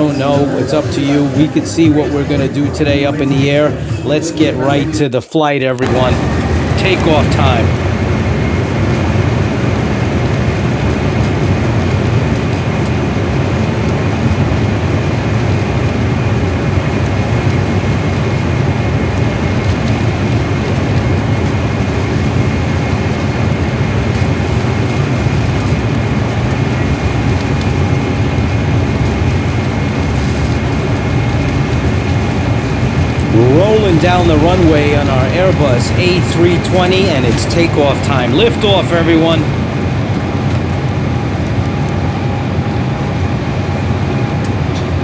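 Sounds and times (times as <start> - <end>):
faint high whine: 0.0 - 5.2, 5.8 - 45.0
jet engine rumble: 0.0 - 45.0.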